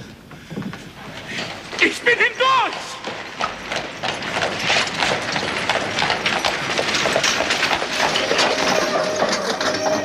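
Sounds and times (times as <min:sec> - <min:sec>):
horse hooves clattering: 0:00.0 - 0:10.0
carriage rattling: 0:01.1 - 0:10.0.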